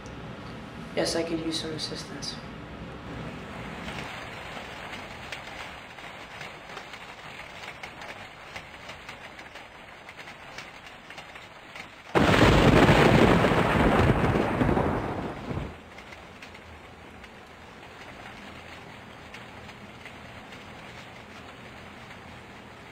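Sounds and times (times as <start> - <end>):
thunderclap rumbling: 2.7 - 22.9
rain pattering: 3.0 - 22.9.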